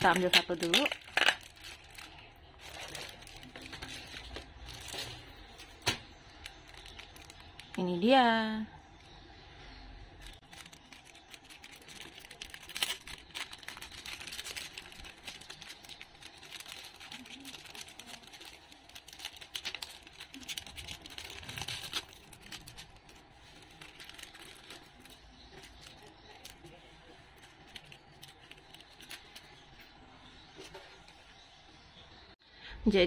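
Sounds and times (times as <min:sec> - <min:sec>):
crinkly plastic packaging rustling: 0:00.0 - 0:08.1, 0:10.2 - 0:31.2.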